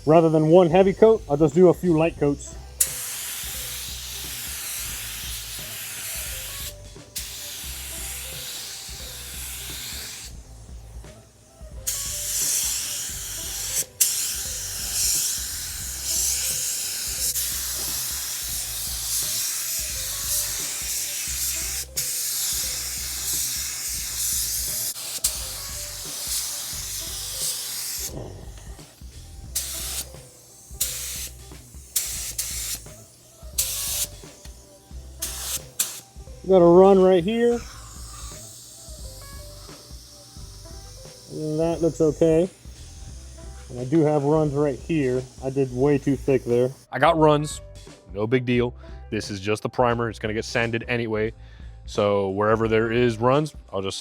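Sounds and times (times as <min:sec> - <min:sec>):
spray gun hissing: 0:01.0 - 0:46.9.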